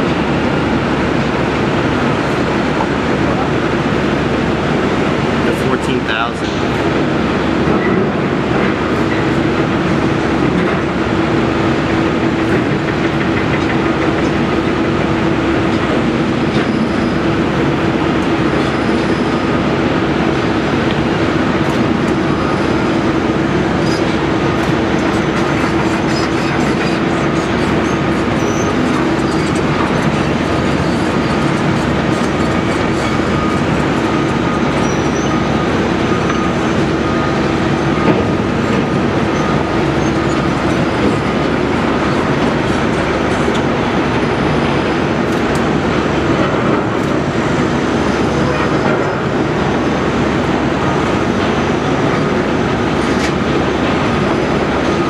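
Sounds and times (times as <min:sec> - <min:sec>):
excavator digging: 0:00.0 - 0:55.0
machinery whine: 0:00.0 - 0:55.0.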